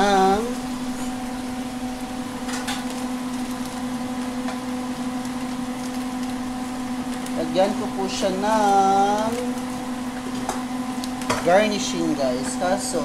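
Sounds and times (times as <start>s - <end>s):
kitchen appliance motor humming: 0.0s - 13.0s.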